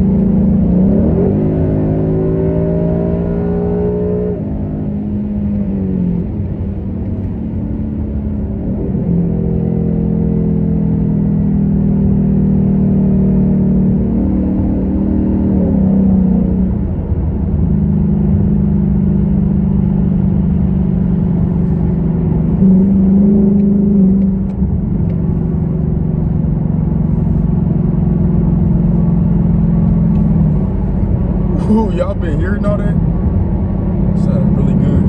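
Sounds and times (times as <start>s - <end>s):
car engine driving: 0.0s - 35.0s.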